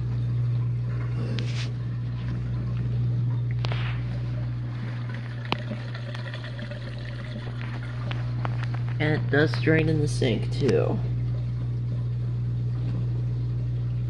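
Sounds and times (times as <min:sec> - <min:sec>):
dishwasher drain pump humming: 0:00.0 - 0:14.0.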